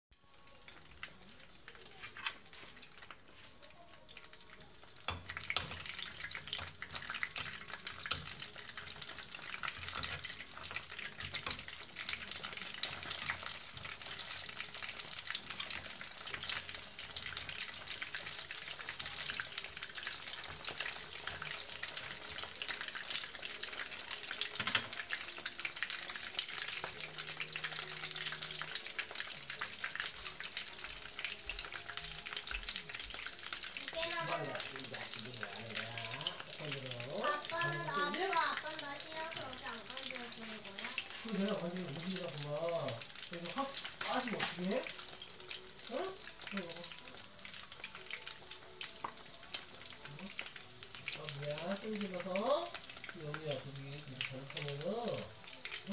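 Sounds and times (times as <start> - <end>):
food sizzling in oil: 0.1 - 55.9.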